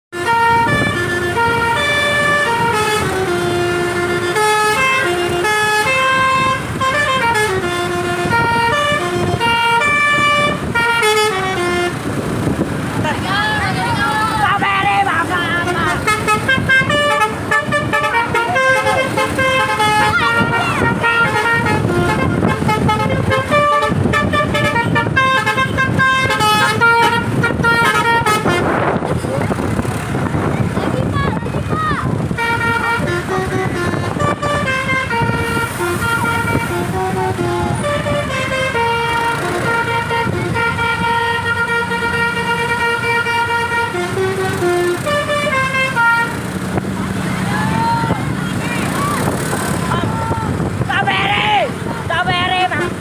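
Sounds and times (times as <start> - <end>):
multi-tone bus horn melody: 0.1 - 50.6, 52.3 - 53.0.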